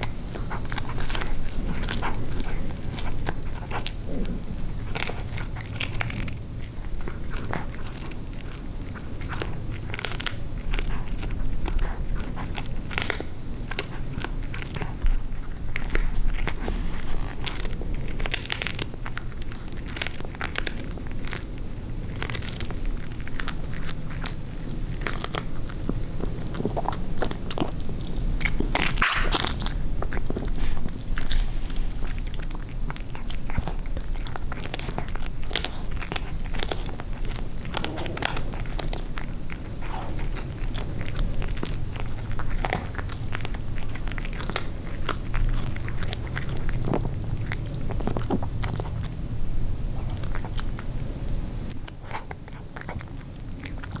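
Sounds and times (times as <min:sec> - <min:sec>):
cat chewing bone: 0:00.0 - 0:54.0.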